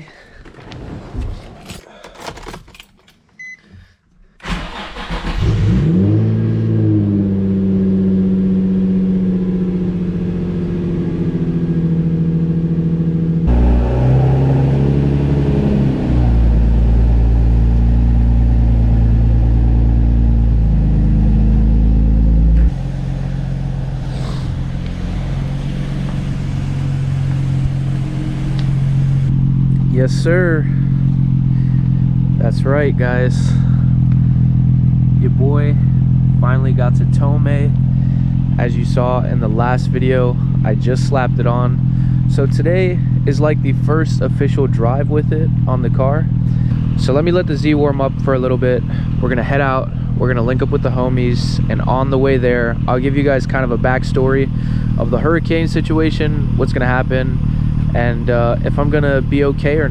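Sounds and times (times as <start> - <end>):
car engine cranking and idling: 0.0 - 59.9
deep exhaust drone: 5.4 - 59.9.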